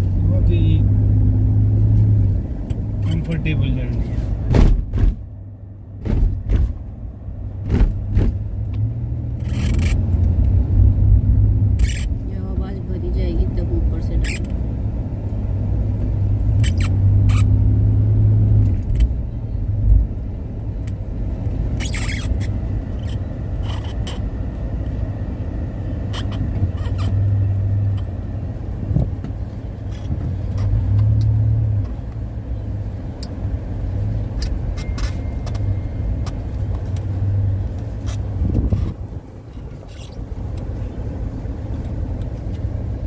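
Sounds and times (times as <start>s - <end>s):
car engine hum inside cabin: 0.0s - 43.0s.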